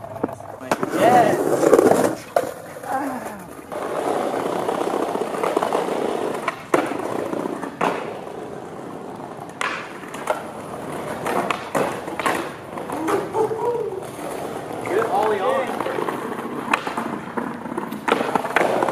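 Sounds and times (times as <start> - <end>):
skateboard clacks: 0.0 - 18.9
skateboard wheels rolling on bricks: 0.0 - 18.9.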